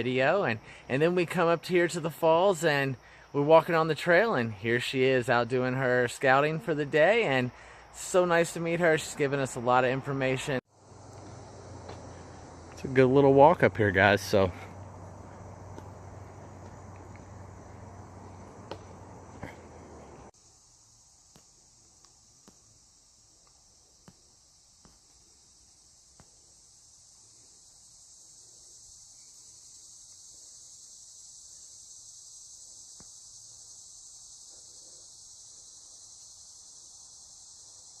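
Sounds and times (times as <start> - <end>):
insects chorus: 0.0 - 38.0.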